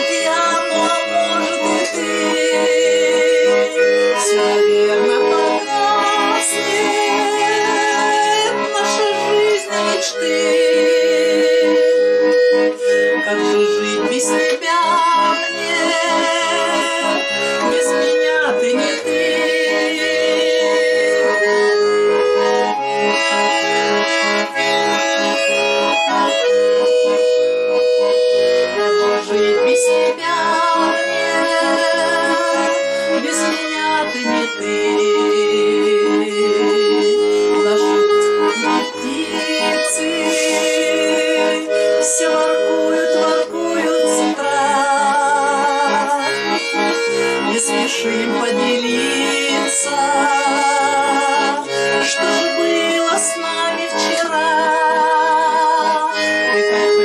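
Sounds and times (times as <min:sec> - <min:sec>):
accordion melody with tremolo: 0:00.0 - 0:57.0.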